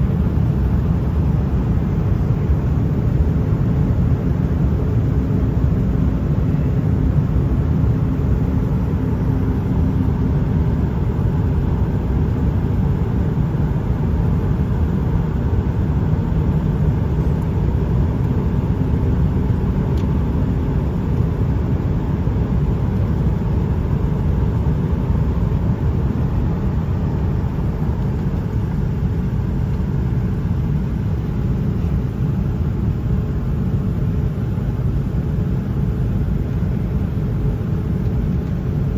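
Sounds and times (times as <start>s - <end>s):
faint hum: 0.0s - 38.9s
jet engines rumbling: 0.0s - 38.9s.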